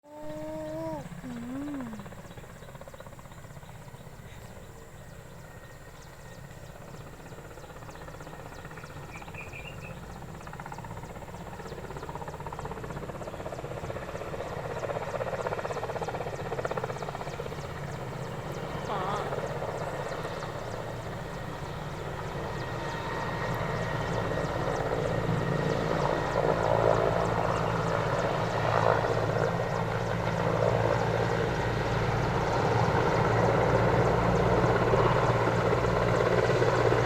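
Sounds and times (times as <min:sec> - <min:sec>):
propeller aircraft engine droning: 0:00.0 - 0:37.0.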